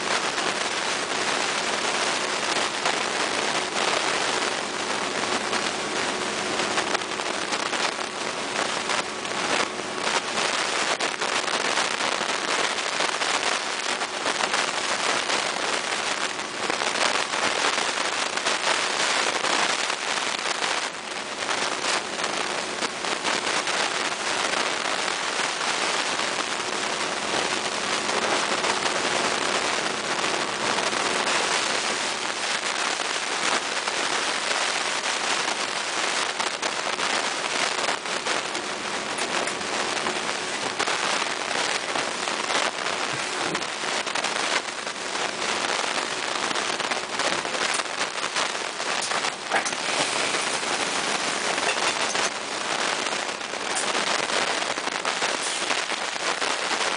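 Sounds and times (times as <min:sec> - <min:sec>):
crackling microphone hiss: 0:00.0 - 0:56.9.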